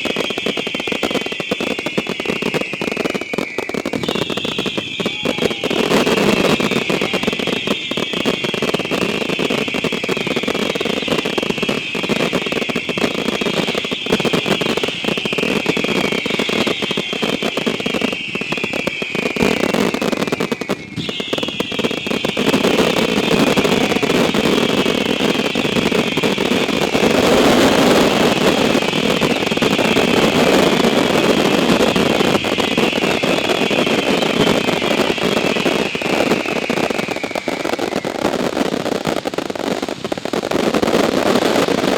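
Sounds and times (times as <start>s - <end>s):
fireworks crackle: 0.0s - 41.9s
whistling fireworks: 0.0s - 41.9s.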